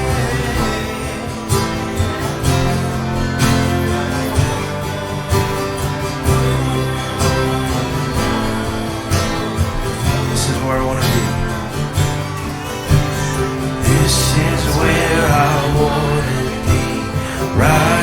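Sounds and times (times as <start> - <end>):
bass guitar: 0.0 - 18.0
strummed acoustic guitar: 0.0 - 18.0.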